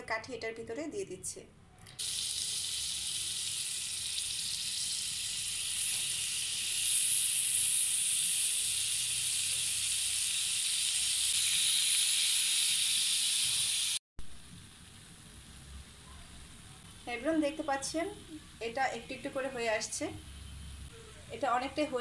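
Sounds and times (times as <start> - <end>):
skewers sizzling in hot oil: 2.0 - 22.0.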